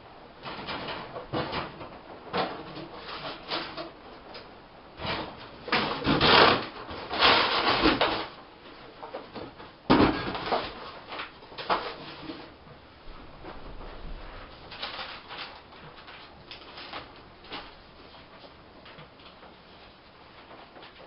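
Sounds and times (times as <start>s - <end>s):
objects rustling and scraping: 0.3s - 21.0s.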